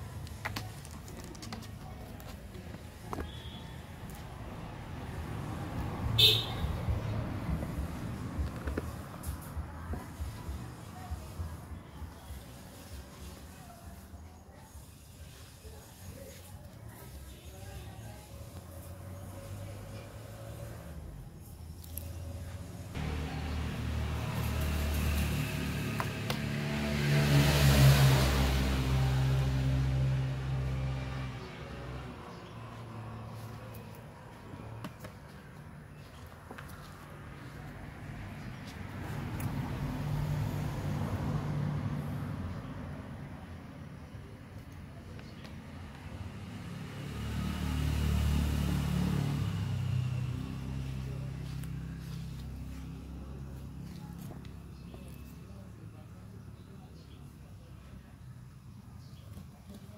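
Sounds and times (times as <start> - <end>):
vehicle engine passing by: 3.0 - 14.0, 16.9 - 58.0.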